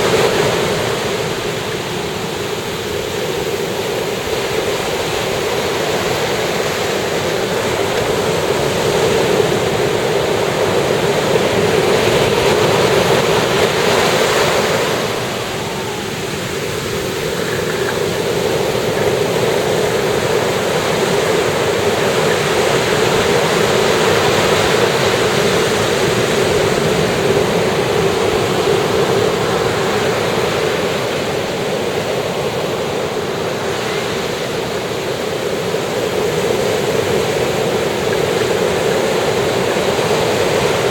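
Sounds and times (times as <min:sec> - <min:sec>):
ocean surf washing ashore: 0:00.0 - 0:40.9.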